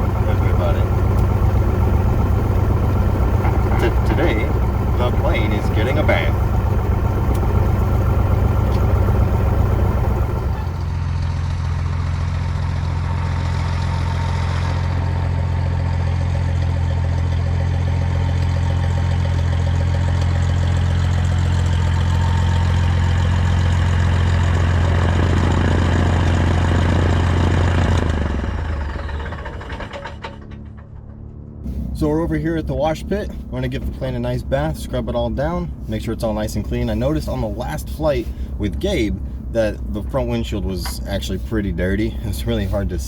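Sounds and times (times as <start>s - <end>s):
engine running at low speed: 0.0s - 43.0s.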